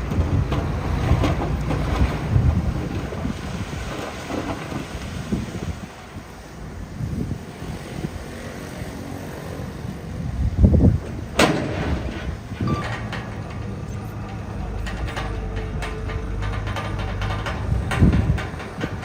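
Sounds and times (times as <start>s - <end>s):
diesel machinery rumbling: 0.0s - 19.0s.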